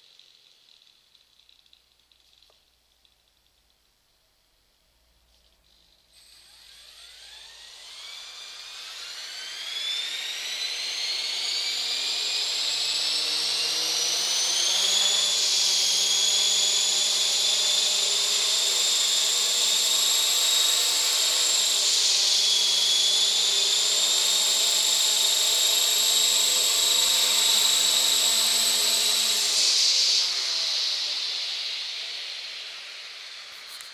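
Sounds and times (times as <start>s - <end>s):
model motor high whine: 6.1s - 33.9s.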